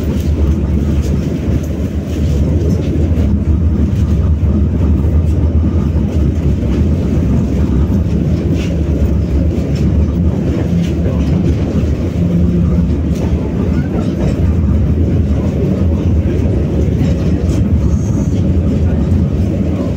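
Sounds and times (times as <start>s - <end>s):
tram rumbling along track: 0.0s - 19.9s.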